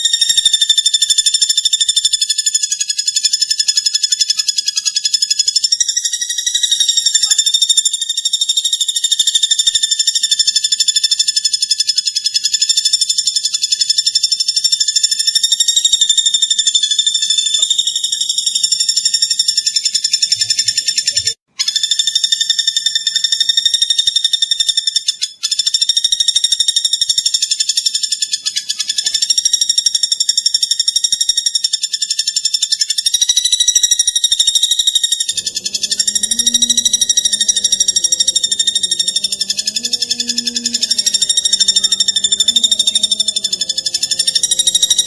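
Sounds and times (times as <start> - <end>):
high-pitched pulsing bird trill: 0.0 - 45.0.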